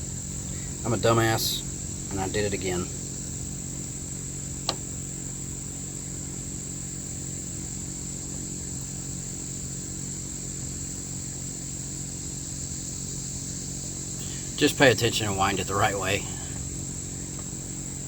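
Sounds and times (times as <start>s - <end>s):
crickets chirping: 0.0s - 18.0s
low mechanical hum: 0.0s - 18.0s.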